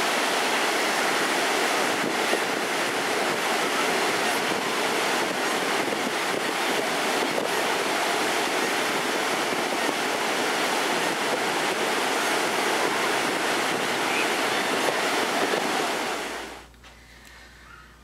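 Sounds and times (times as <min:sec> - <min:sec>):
ocean waves breaking on beach: 0:00.0 - 0:16.6.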